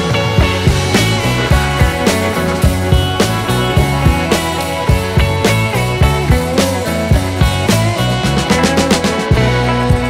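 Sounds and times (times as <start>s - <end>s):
rock music with driving beat: 0.0s - 10.0s.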